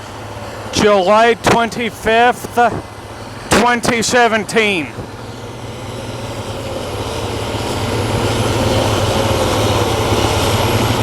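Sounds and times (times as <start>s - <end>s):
combine harvester humming: 0.0s - 11.0s.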